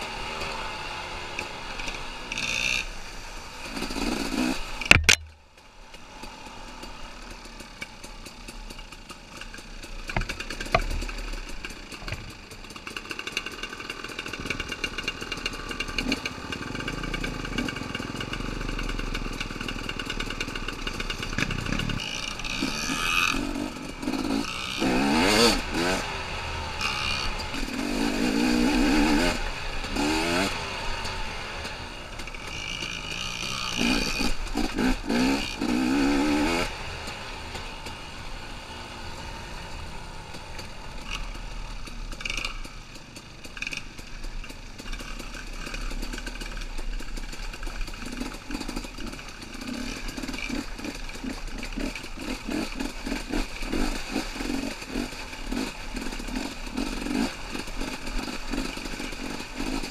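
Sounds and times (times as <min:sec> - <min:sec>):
two-stroke dirt bike engine revving: 0:00.0 - 0:59.9.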